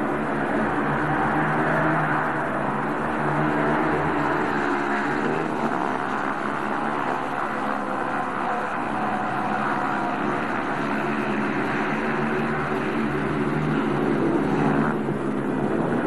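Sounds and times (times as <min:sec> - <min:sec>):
racing motorcycle engines buzzing: 0:00.0 - 0:16.0.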